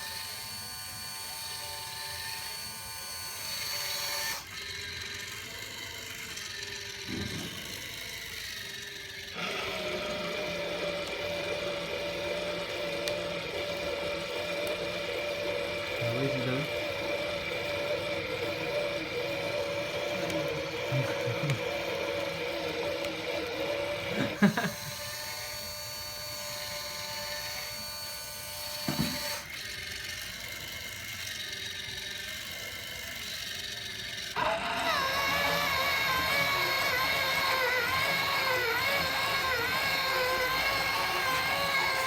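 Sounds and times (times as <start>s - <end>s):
spindle motor whining: 0.0s - 42.0s.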